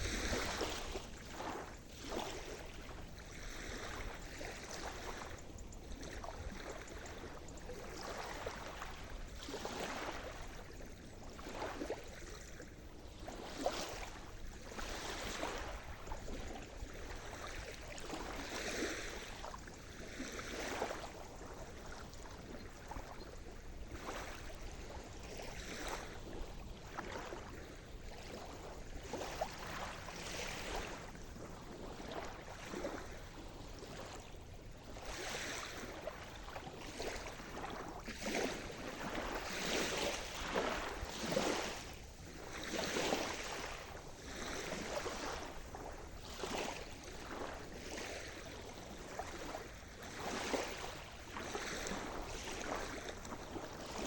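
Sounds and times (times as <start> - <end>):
small waves breaking: 0.0 - 54.0.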